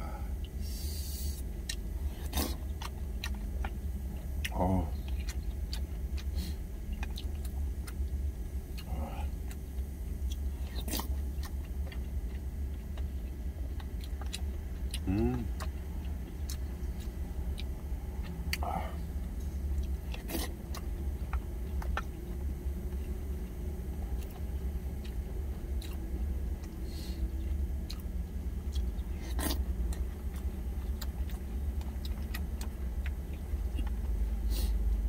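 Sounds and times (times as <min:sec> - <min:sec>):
steady low rumble: 0:00.0 - 0:35.0
chewing: 0:01.4 - 0:34.8.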